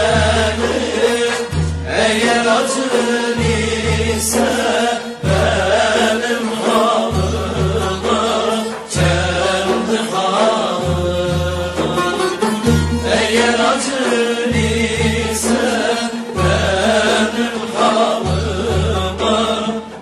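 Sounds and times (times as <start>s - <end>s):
chant-like wavering melody: 0.0s - 20.0s.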